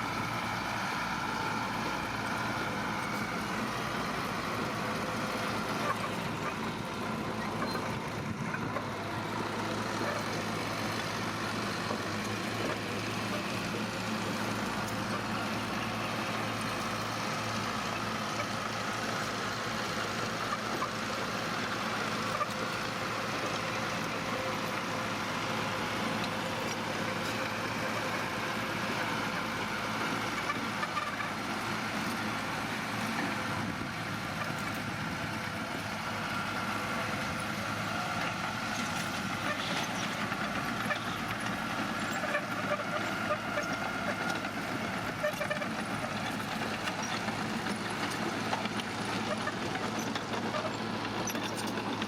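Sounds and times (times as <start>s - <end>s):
heavy machinery diesel engine running: 0.0s - 52.0s.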